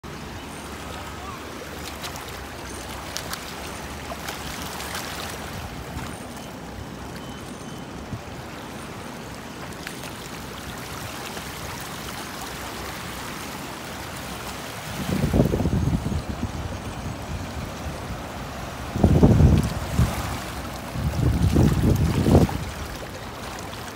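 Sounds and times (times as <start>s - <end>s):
seawater lapping over rocks: 0.1s - 7.4s, 8.0s - 16.3s, 17.6s - 23.9s.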